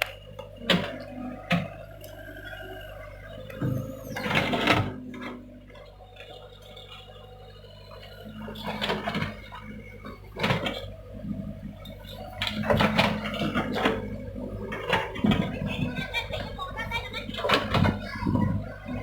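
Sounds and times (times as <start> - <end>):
excavator engine hum: 0.0 - 19.0.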